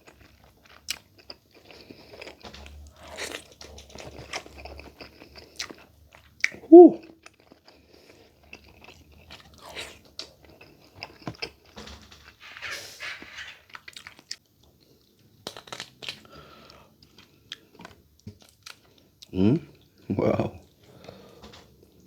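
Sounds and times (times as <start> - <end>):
chewing and crunching: 0.0 - 12.4, 13.7 - 22.0.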